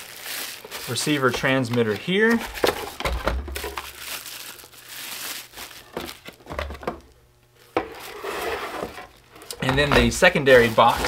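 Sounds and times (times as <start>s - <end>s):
packaging wrap crinkling: 0.0s - 11.0s.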